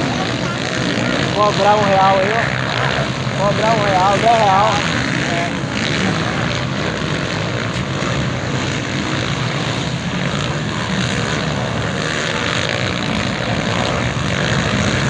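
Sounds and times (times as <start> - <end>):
motocross motorcycle engines: 0.0 - 15.0.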